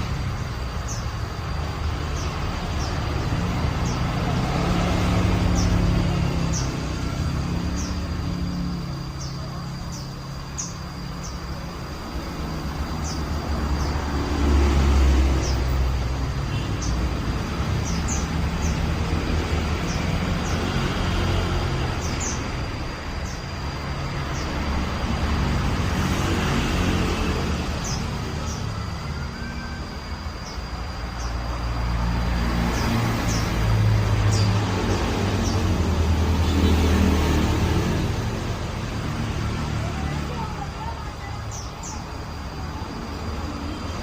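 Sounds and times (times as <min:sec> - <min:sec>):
low rumble of road traffic: 0:00.0 - 0:44.0.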